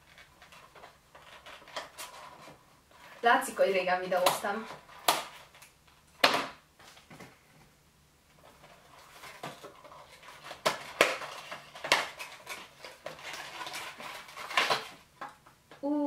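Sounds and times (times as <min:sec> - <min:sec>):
packaging rustling and crinkling: 0:00.0 - 0:07.6, 0:08.3 - 0:15.5.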